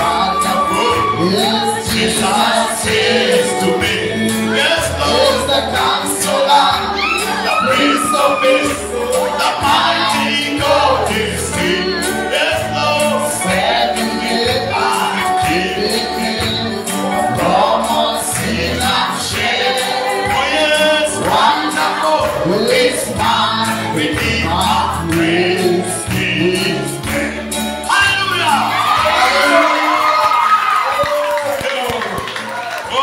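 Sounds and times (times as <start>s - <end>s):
voices singing: 0.0s - 30.9s
band with rhythmic percussion: 0.0s - 33.0s.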